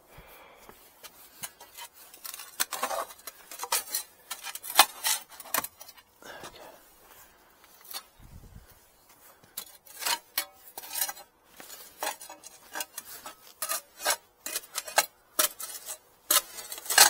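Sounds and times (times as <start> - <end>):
metal tool scraping soil and gravel: 1.0 - 8.2, 9.0 - 17.0.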